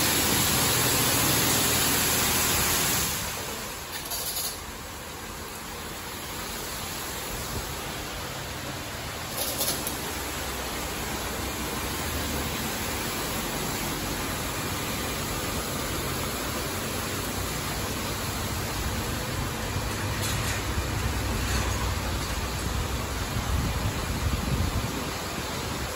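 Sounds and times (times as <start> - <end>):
water jets spraying car: 0.0 - 25.9.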